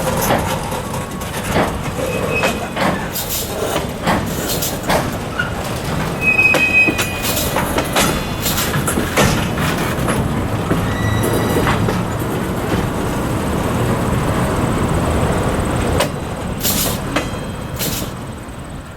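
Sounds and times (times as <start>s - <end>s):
clanks at rail joints: 0.0s - 18.9s
freight train wheels rumbling: 0.0s - 18.9s
high wheel squeals: 0.0s - 18.9s.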